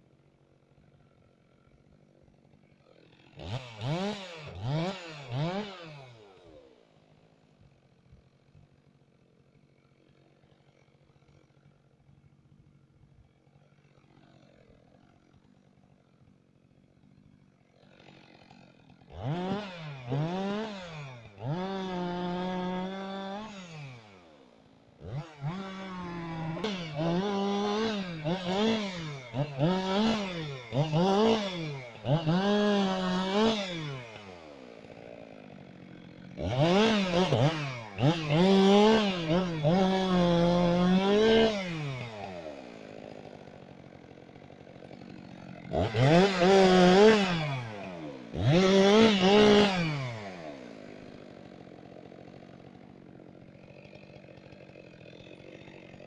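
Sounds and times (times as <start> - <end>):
chainsaw idling: 0.0 - 56.0
chainsaw revving and cutting: 0.0 - 56.0.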